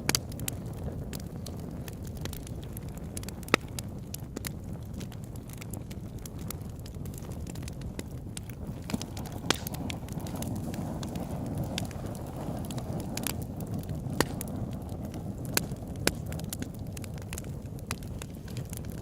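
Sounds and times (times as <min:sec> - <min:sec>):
burning wood popping and snapping: 0:00.0 - 0:19.0
campfire burning: 0:00.0 - 0:19.0.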